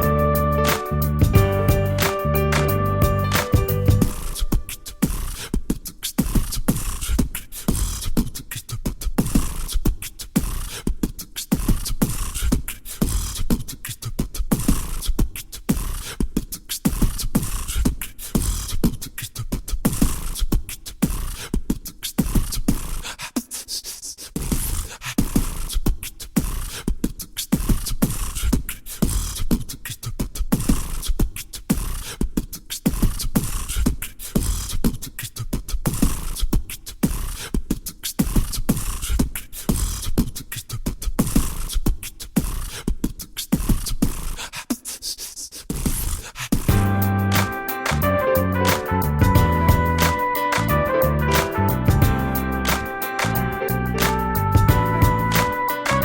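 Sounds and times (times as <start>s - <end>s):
music with fast percussive beat: 0.0s - 23.6s, 24.4s - 44.8s, 45.7s - 56.0s.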